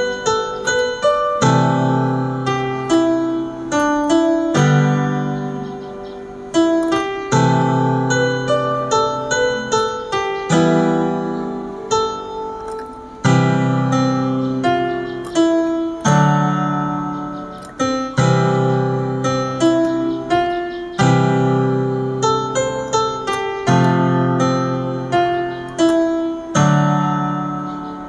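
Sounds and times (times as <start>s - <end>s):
electronic keyboard piano melody: 0.0s - 28.0s.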